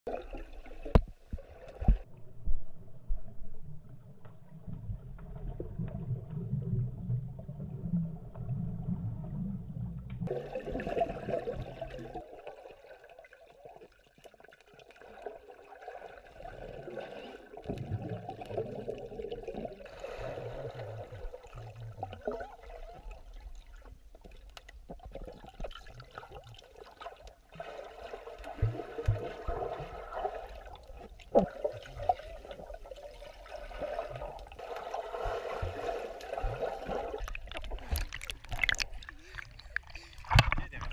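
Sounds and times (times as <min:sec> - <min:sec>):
muffled underwater water wash: 0:00.1 - 0:40.9
underwater bubbling: 0:00.1 - 0:40.9.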